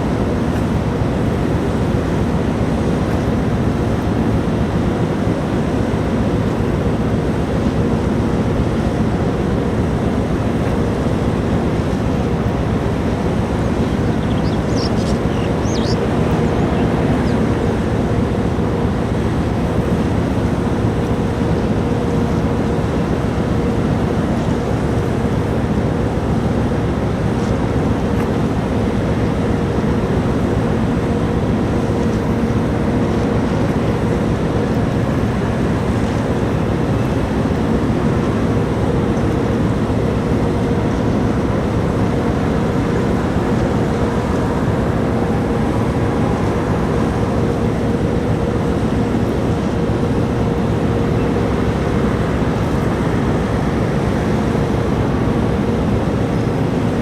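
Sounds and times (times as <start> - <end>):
drone-like hum: 0.0 - 57.0
ferry engine rumble: 0.0 - 57.0.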